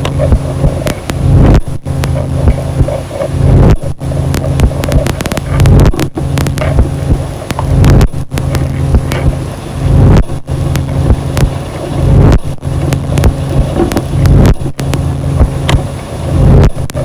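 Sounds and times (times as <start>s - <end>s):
distorted low rumble noise music: 0.0s - 17.0s
steady hum: 0.0s - 17.0s.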